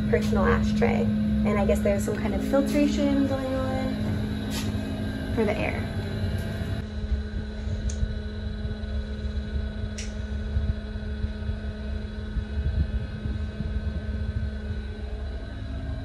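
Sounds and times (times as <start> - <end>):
ventilation fan humming: 0.0 - 16.0.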